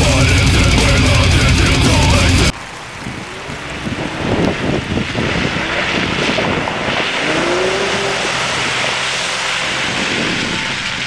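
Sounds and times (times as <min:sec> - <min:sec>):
engine revving: 0:00.0 - 0:02.6, 0:03.2 - 0:11.0
water splashing: 0:00.1 - 0:11.0.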